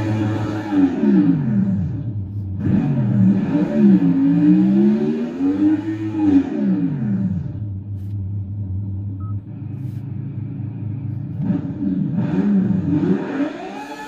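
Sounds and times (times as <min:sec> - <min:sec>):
simulated engine sound through speakers: 0:00.0 - 0:14.0.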